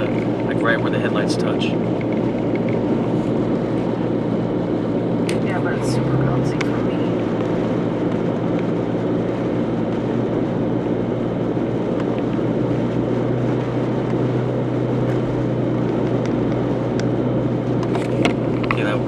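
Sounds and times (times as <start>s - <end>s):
car road and engine drone: 0.0s - 19.0s.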